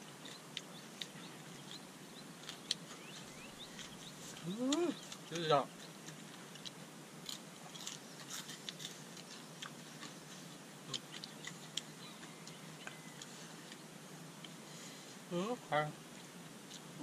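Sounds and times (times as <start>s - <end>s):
chewing and eating sounds: 0.0s - 14.7s, 16.0s - 17.0s
faint steady background hiss: 0.0s - 17.0s.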